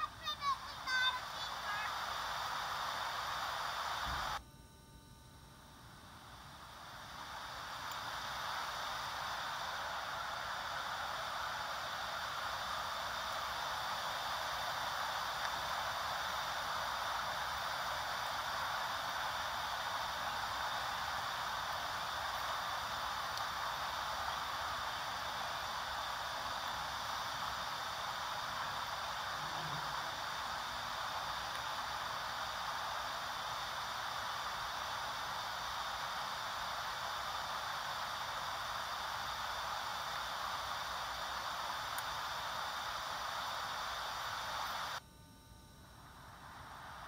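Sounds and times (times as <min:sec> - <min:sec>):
static hiss from small speaker: 0:00.0 - 0:47.0.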